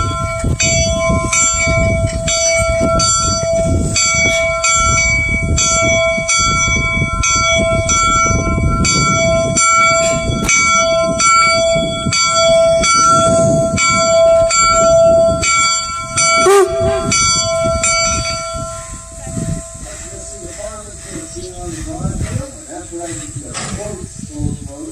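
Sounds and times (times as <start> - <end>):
locomotive bell ringing: 0.0 - 23.6
locomotive rolling rumble: 0.0 - 24.9.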